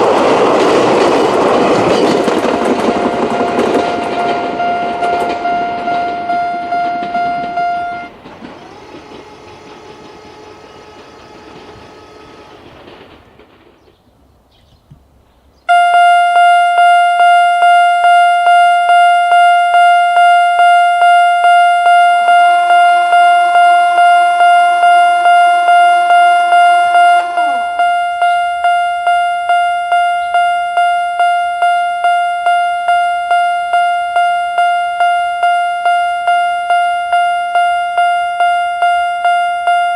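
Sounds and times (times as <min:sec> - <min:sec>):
level crossing alarm: 0:00.0 - 0:13.4, 0:15.7 - 0:39.9
train motor whine: 0:00.0 - 0:13.9, 0:16.2 - 0:39.9
train running noise: 0:00.0 - 0:15.2, 0:18.0 - 0:39.9.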